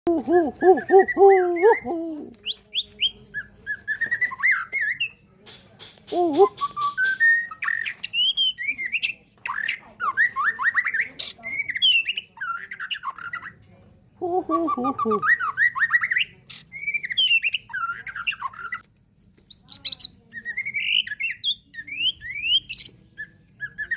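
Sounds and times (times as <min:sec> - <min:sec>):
songbird singing: 0:00.1 - 0:23.9.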